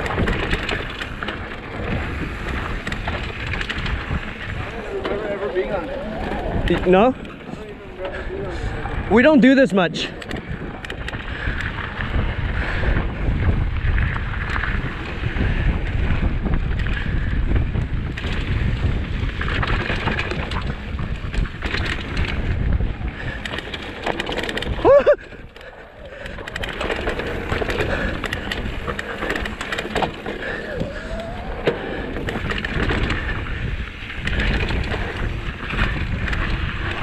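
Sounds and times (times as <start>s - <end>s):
bike tyres rattling on rough ground: 0.0s - 37.0s
wind buffeting microphone: 0.0s - 37.0s.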